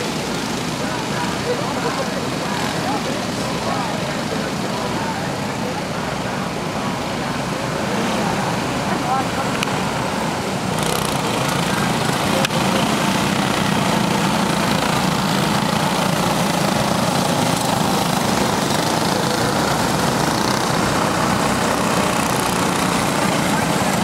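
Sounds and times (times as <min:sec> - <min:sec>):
racing karts engine drone: 0:00.0 - 0:24.0.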